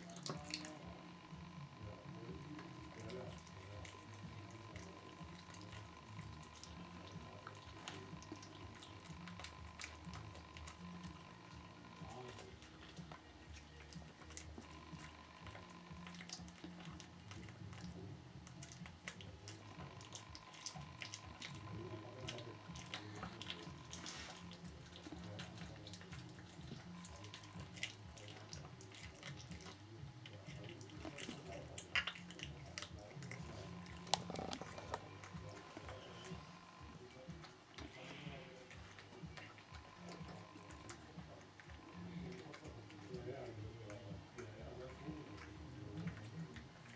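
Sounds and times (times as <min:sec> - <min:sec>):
cat chewing wet smacking: 0:00.0 - 0:46.9
faint steady hum: 0:00.0 - 0:46.9.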